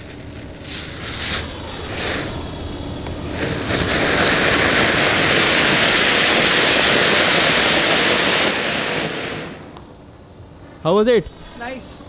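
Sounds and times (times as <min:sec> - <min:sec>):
ground firework hissing: 0:00.0 - 0:12.0.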